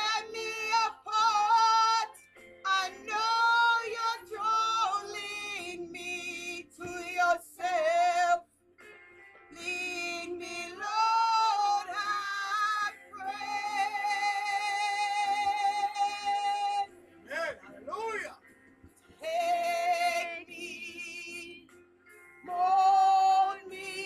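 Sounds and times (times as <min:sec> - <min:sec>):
woman singing worship song: 0:00.0 - 0:08.4, 0:09.5 - 0:16.9, 0:19.1 - 0:21.8, 0:22.4 - 0:24.0.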